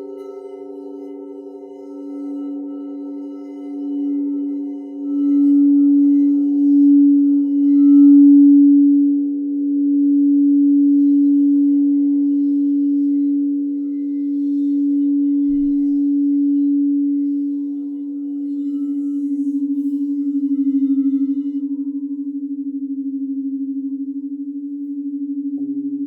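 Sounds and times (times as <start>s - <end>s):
singing bowls ringing: 0.0s - 25.8s.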